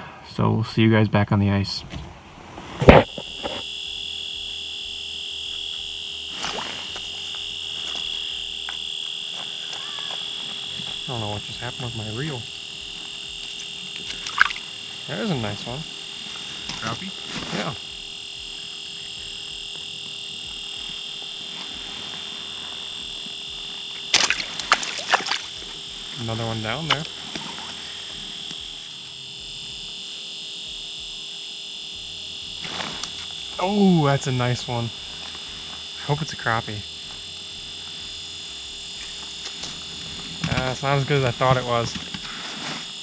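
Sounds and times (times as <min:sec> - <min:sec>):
high-pitched whine: 0:00.0 - 0:43.0.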